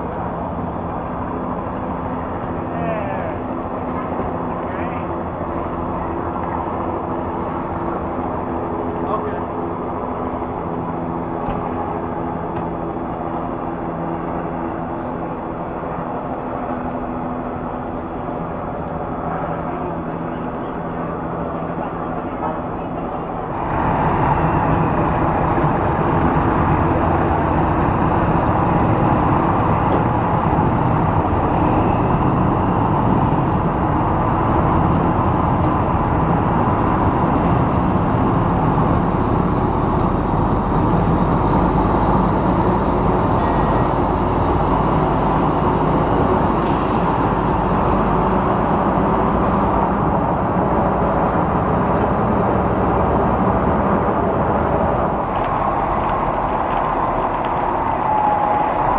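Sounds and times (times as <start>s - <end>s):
heavy vehicle engines rumbling: 0.0s - 58.9s.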